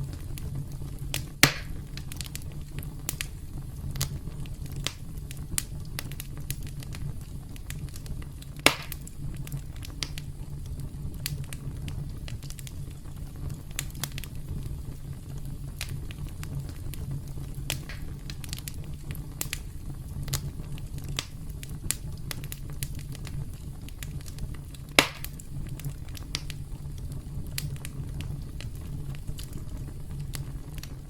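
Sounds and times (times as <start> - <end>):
loud sharp fire pops: 0.0 - 12.9, 15.7 - 31.0
campfire crackling: 0.0 - 31.0.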